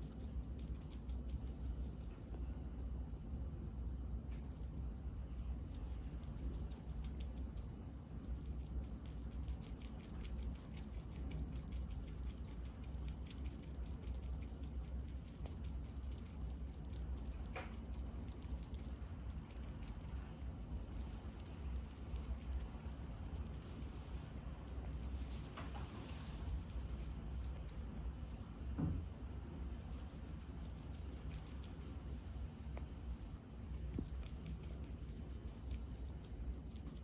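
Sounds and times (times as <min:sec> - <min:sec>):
small animal nibbling clicks: 0:00.0 - 0:03.5, 0:04.2 - 0:28.8, 0:29.5 - 0:37.0
steady low hum: 0:00.0 - 0:37.0.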